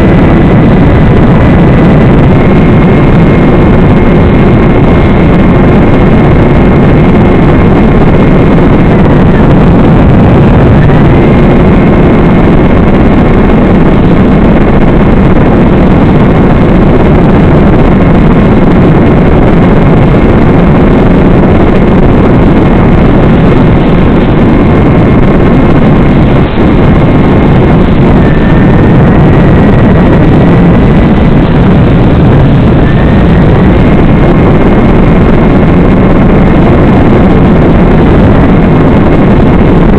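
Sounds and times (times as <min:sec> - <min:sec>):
electric motor whine: 0:00.0 - 0:39.9
rushing noise: 0:00.0 - 0:39.9.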